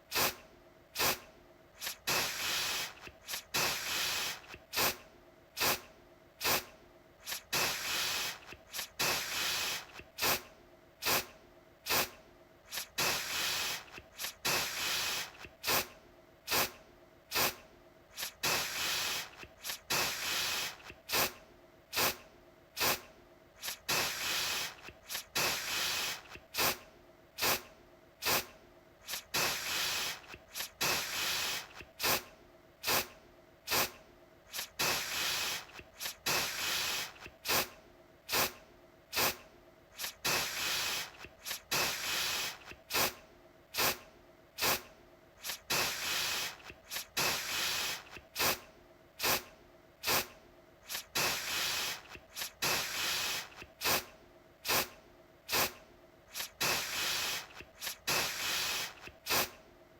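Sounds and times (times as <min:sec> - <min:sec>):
aerosol can spraying: 0:00.1 - 0:00.4, 0:01.0 - 0:01.2, 0:01.8 - 0:05.0, 0:05.6 - 0:15.9, 0:16.5 - 0:22.2, 0:22.8 - 0:26.8, 0:27.4 - 0:33.1, 0:33.7 - 0:39.4, 0:40.0 - 0:44.0, 0:44.6 - 0:48.6, 0:49.2 - 0:59.6.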